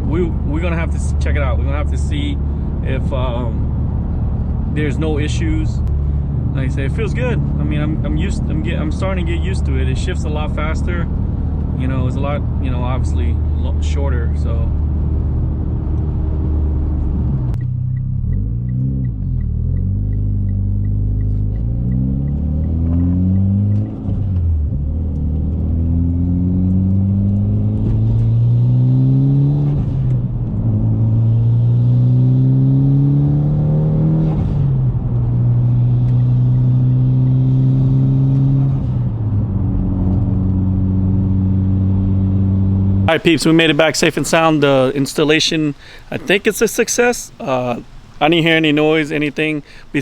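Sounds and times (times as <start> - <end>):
car engine pulling through gears: 0.0 - 46.6.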